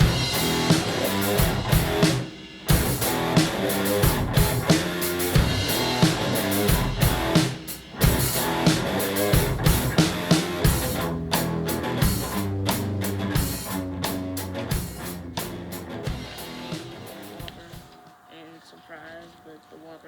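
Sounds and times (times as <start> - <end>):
rock music with drums and guitar: 0.0 - 18.2.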